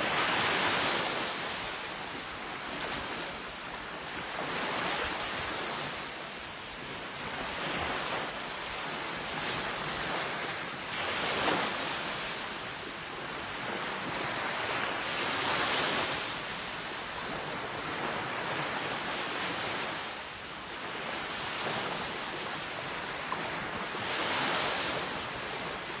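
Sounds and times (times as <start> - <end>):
waves breaking on sandy beach: 0.0 - 26.0.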